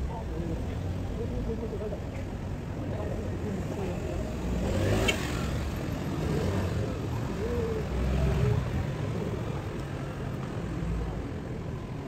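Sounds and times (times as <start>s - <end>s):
faint voices of people: 0.0s - 5.5s, 6.2s - 12.0s.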